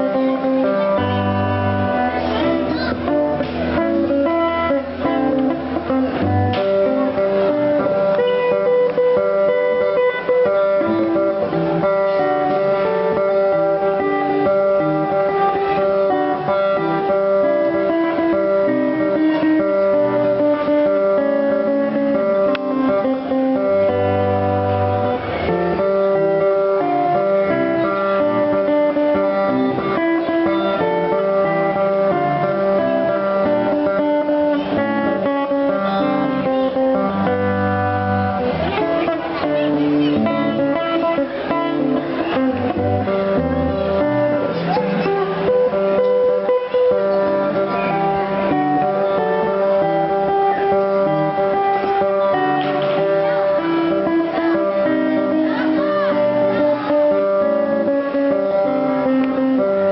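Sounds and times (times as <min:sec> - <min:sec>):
plucked guitar melody: 0:00.0 - 0:59.9.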